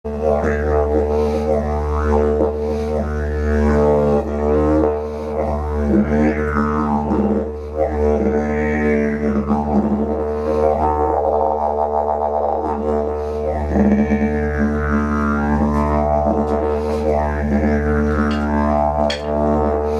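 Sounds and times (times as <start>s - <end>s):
didgeridoo drone: 0.1s - 19.9s.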